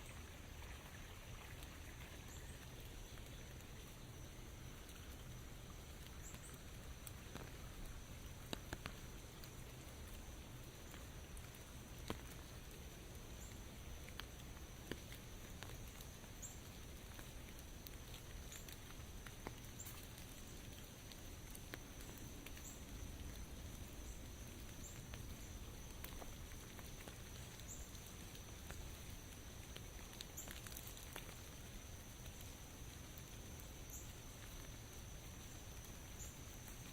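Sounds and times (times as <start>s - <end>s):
light rain on foliage: 0.0s - 36.9s
water drips: 0.0s - 36.9s.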